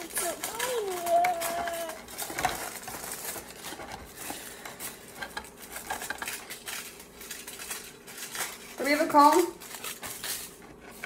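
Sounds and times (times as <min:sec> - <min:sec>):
small hard objects clicking: 0:00.0 - 0:10.6.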